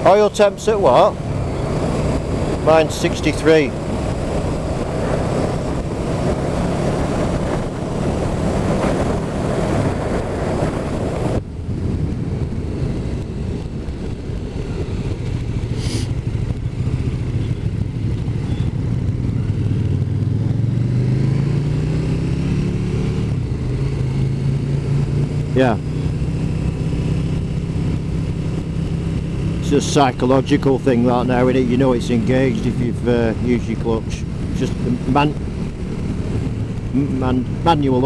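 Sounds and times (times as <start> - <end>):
motorcycle engine running: 0.0 - 38.0
wind rush: 0.0 - 38.0.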